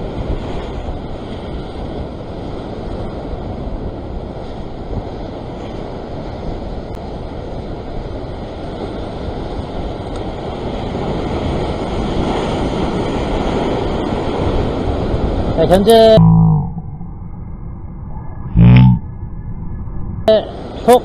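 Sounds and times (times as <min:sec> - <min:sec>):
surf churning: 0:00.0 - 0:16.2, 0:20.3 - 0:21.0
wind buffeting microphone: 0:00.0 - 0:18.3.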